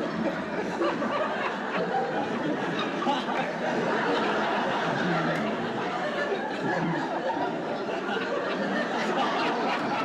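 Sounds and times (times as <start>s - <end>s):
babble of many voices: 0.0s - 10.0s
people laughing: 0.0s - 10.0s.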